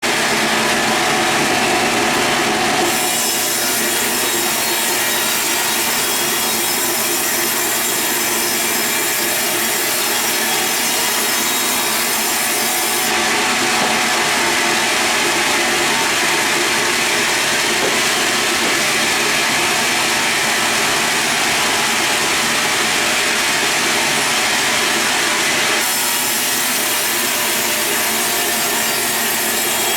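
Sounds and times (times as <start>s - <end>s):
saw cutting through log: 0.0s - 29.9s.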